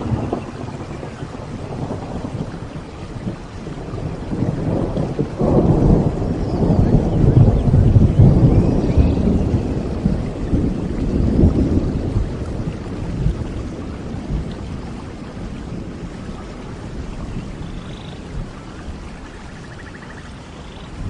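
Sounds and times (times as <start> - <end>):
thunder rumble: 0.0 - 19.8
steady rain: 0.0 - 21.0.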